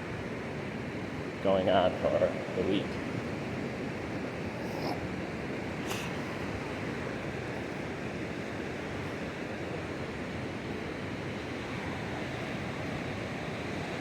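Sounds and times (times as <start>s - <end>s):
ocean surf washing on beach: 0.0s - 14.0s.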